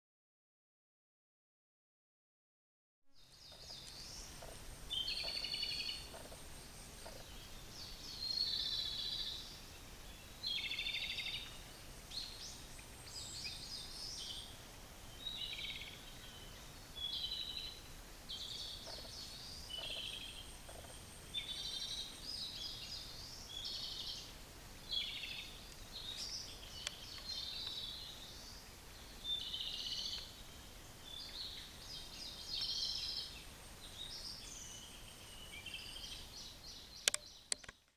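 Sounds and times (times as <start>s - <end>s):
birds singing trills: 3.2s - 37.9s.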